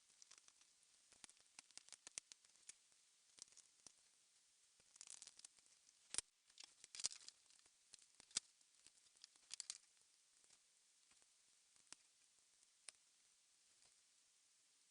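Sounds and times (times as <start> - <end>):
small clicks and rustling scrapes: 0.0 - 13.0.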